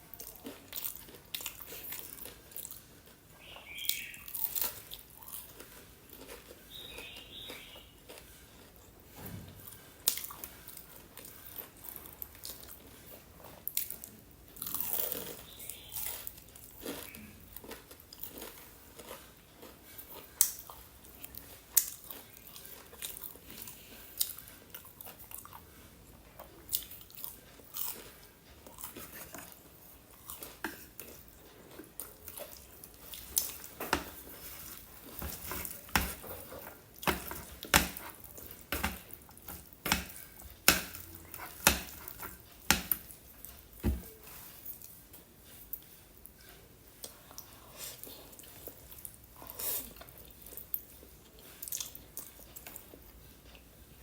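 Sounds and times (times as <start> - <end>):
person chewing crispy chicken: 0.0 - 9.1, 9.8 - 53.8.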